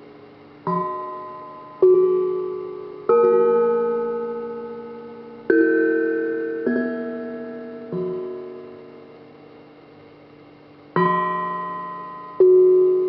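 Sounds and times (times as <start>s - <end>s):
iron instrument notes ringing: 0.0s - 13.0s.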